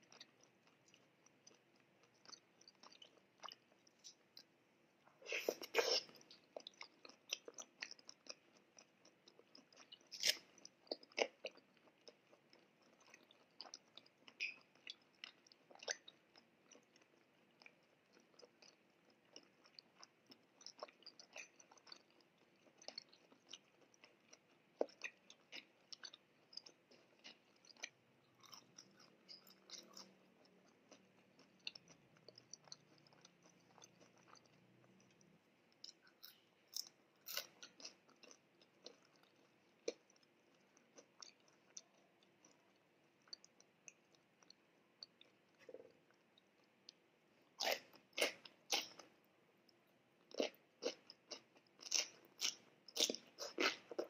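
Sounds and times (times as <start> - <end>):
person chewing with wet clicks: 0.0 - 54.0.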